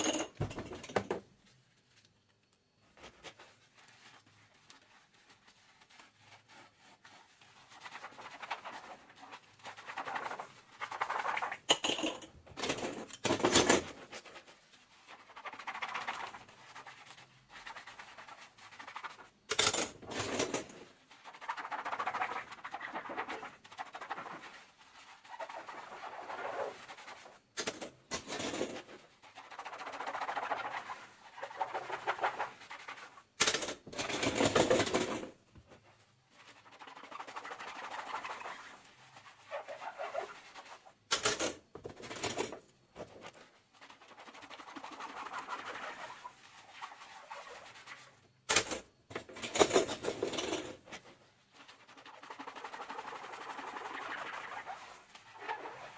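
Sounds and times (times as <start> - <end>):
sponge scrubbing dishes: 2.9 - 55.9.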